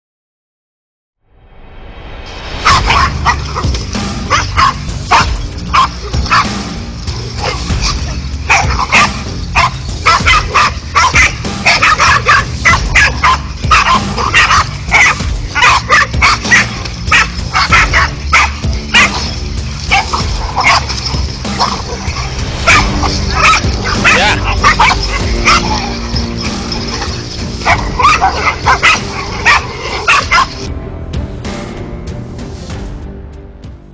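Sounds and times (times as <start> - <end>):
dogs barking and yapping: 2.6 - 30.7.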